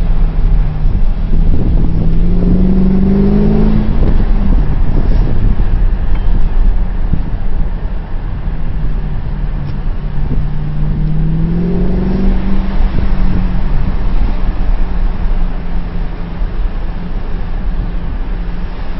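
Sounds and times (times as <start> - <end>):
deep exhaust rumble: 0.0 - 18.9.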